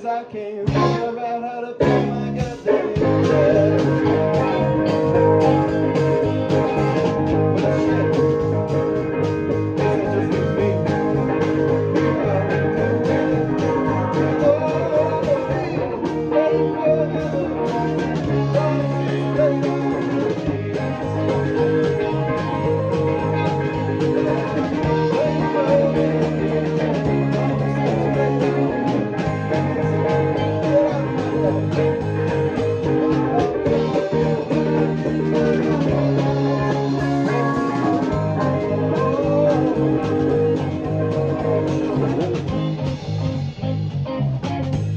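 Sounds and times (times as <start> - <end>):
electric bass fingerstyle: 0.6 - 1.2, 1.8 - 44.9
rock band playing: 0.7 - 1.2, 1.8 - 44.9.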